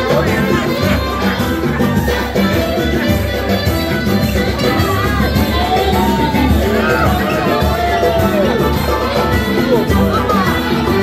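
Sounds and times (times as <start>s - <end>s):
crowd talking: 0.0s - 11.0s
loud music with bass beat: 0.0s - 11.0s.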